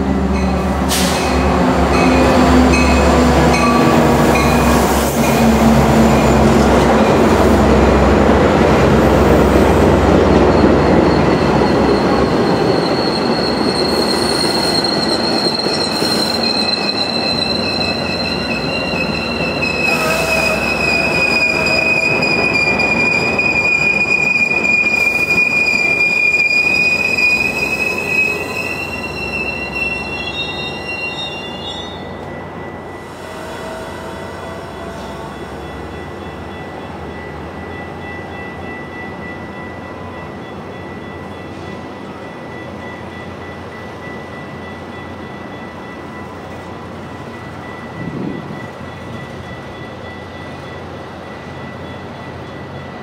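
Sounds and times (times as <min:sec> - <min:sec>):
steel wheels squealing on rails: 0:00.0 - 0:08.1, 0:08.8 - 0:53.0
train rumbling past: 0:00.0 - 0:53.0.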